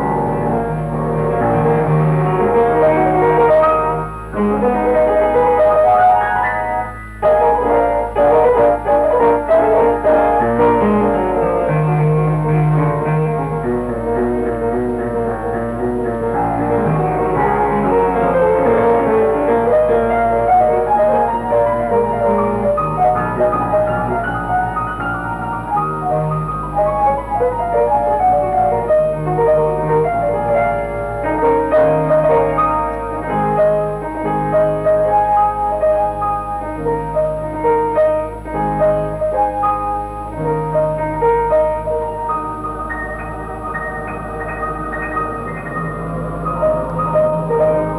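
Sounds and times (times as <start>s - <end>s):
piano and bowed strings music: 0.0s - 47.9s.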